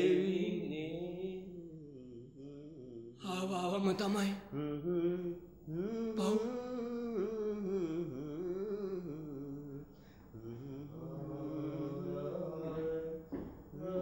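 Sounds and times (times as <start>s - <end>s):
man chanting: 0.0s - 3.2s, 4.5s - 14.0s.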